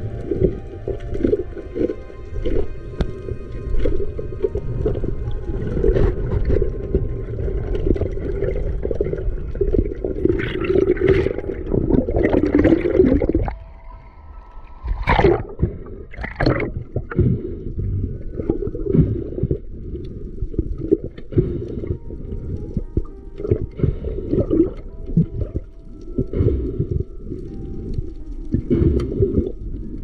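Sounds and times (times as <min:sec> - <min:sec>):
bubbly splashes: 0:00.0 - 0:13.6, 0:14.8 - 0:30.0
underwater gurgling and sloshing: 0:00.0 - 0:30.0.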